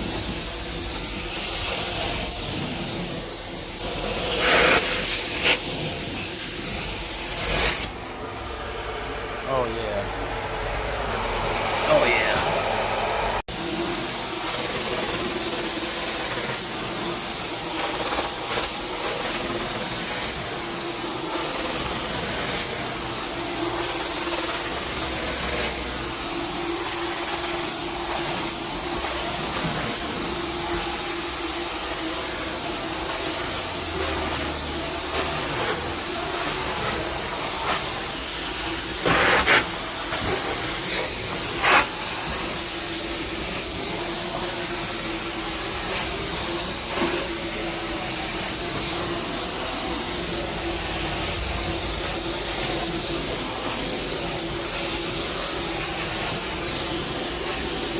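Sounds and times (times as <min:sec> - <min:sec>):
vacuum suction hissing rush: 0:00.0 - 0:57.9.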